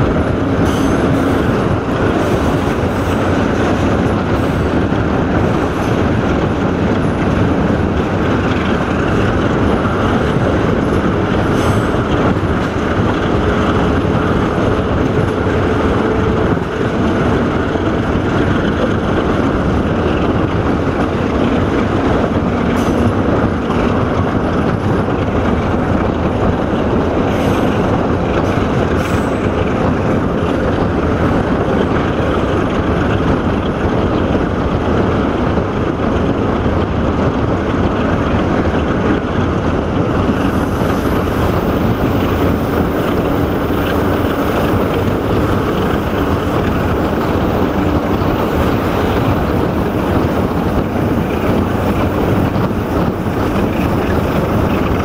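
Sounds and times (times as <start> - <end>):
train wheels on rails: 0.0 - 55.0
wind rushing past microphone: 0.0 - 55.0.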